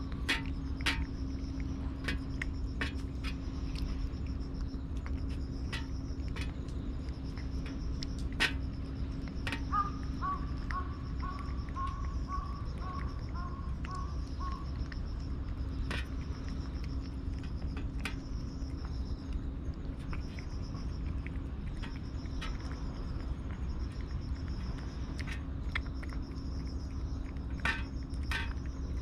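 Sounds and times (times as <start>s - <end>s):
insect chirping trills: 0.0s - 29.0s
low steady hum: 0.0s - 29.0s.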